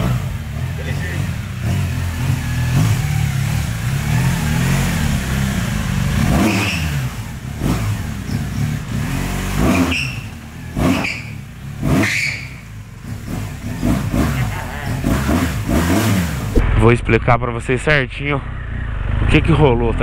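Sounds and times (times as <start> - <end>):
motorcycle engine low revs: 0.0 - 16.7.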